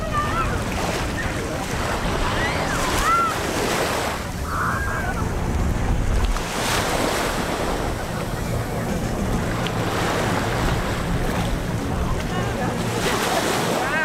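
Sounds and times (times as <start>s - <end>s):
wind buffeting microphone: 0.0s - 13.2s
small waves breaking on shore: 0.0s - 14.0s.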